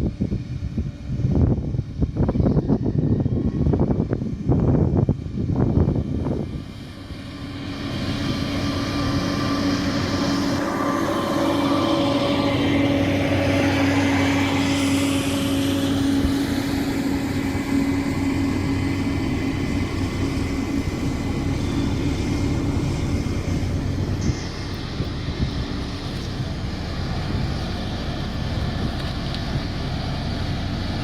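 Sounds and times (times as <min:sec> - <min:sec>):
bulldozer engine hum: 0:00.0 - 0:31.0
steady whine: 0:00.0 - 0:31.0.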